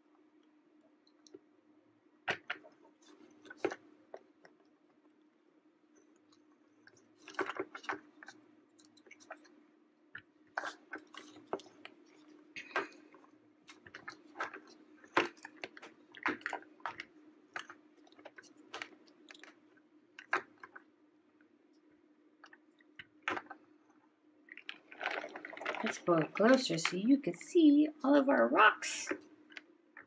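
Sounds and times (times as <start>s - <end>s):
faint steady hum: 0.0s - 30.0s
dough squishing: 2.2s - 21.0s, 21.6s - 27.1s.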